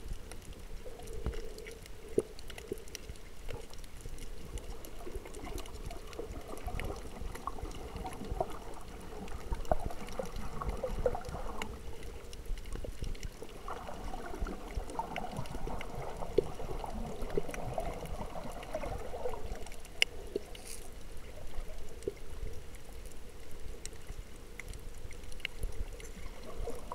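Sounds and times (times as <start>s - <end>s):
low underwater rumble: 0.0s - 26.9s
underwater swishing and gurgling: 0.0s - 26.9s.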